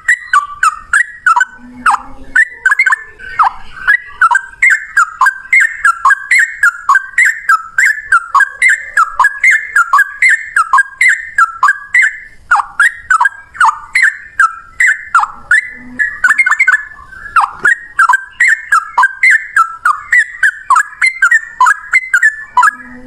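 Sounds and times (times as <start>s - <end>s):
bird singing bubbling notes: 0.0s - 23.0s.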